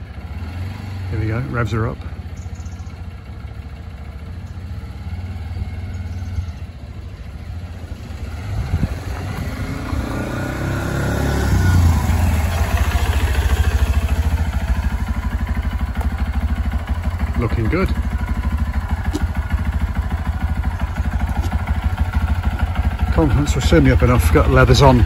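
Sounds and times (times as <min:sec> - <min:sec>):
mini-bike engine revving: 0:03.8 - 0:06.8, 0:07.5 - 0:25.0.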